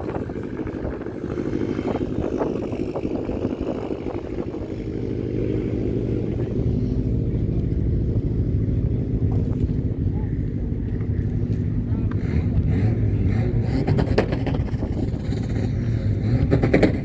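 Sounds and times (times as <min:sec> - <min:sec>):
car engine rumbling exhaust: 0:00.0 - 0:17.0.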